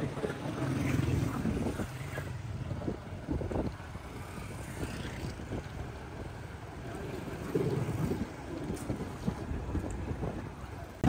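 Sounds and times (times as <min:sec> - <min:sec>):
motorcycle engines passing: 0:00.0 - 0:11.0
wind on microphone: 0:01.2 - 0:06.5, 0:07.2 - 0:11.0.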